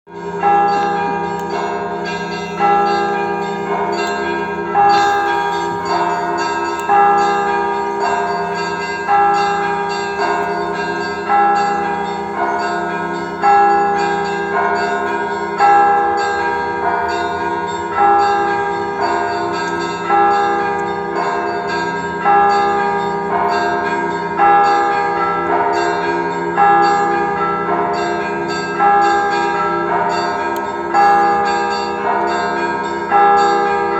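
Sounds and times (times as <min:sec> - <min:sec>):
church bells ringing a peal: 0:00.1 - 0:33.9
hum of large bells: 0:00.1 - 0:33.9
smaller bells chiming quickly: 0:00.2 - 0:33.9.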